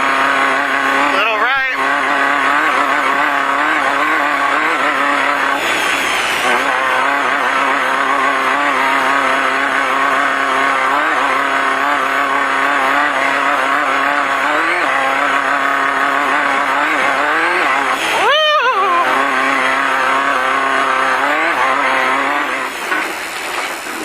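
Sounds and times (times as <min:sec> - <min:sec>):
race car engine at high revs: 0:00.0 - 0:24.0.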